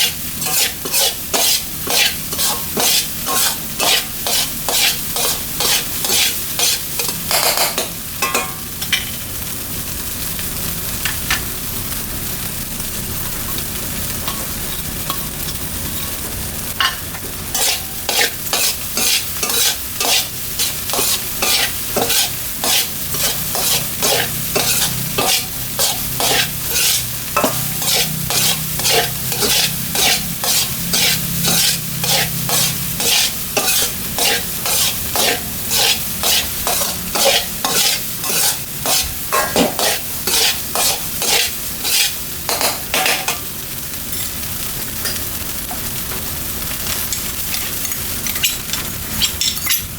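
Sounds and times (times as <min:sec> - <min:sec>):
spatula scraping a wok: 0:00.0 - 0:09.2, 0:14.1 - 0:46.1, 0:46.8 - 0:49.9
rice sizzling in a wok: 0:00.0 - 0:49.9.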